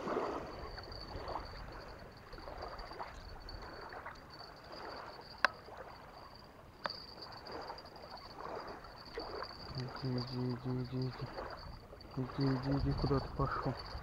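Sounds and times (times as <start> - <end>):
faint high whine: 0.0 - 14.0
water lapping and splashing: 0.0 - 14.0.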